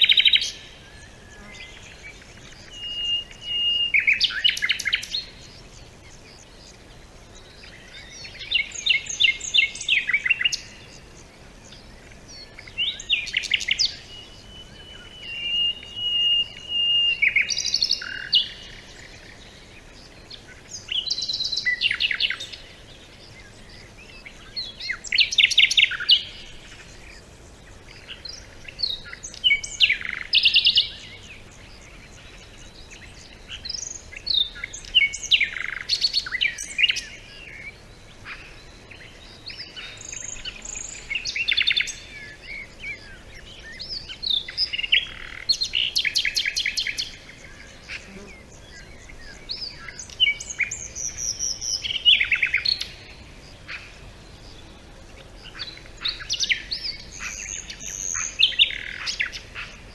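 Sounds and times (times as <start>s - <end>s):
songbird trilling: 0.0s - 59.9s.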